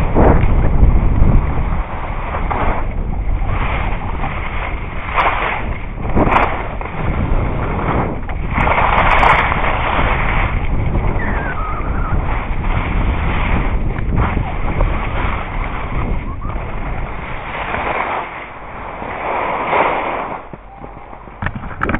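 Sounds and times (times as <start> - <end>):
skis scraping over snow: 0.0 - 21.9
wind noise on microphone: 0.0 - 21.9.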